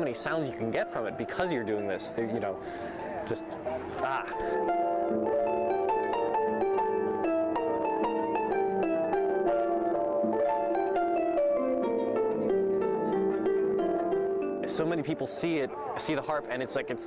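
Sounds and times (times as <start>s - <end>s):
harp playing melody: 0.0s - 17.0s.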